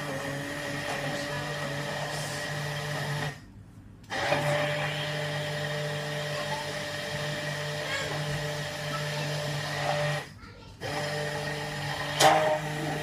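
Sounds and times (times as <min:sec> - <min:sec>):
stick blender running: 0:00.0 - 0:03.4, 0:04.0 - 0:13.0.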